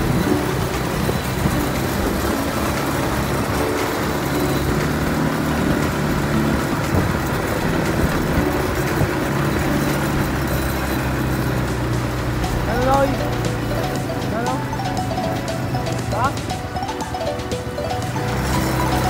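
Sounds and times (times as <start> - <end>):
quad bike engine running: 0.0 - 19.0
riding over dirt track: 0.0 - 19.0.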